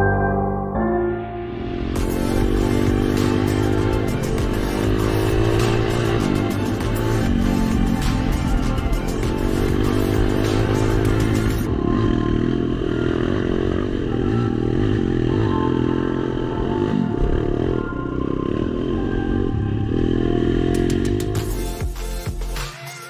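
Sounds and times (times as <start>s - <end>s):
pit bike engine revving: 2.0s - 21.6s.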